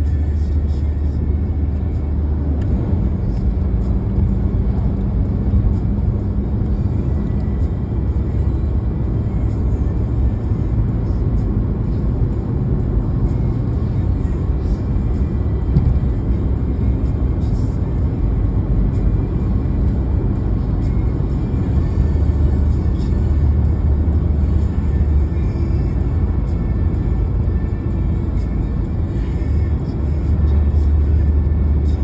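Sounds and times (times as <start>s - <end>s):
car driving on road: 0.0s - 32.0s
music playing: 0.0s - 32.0s.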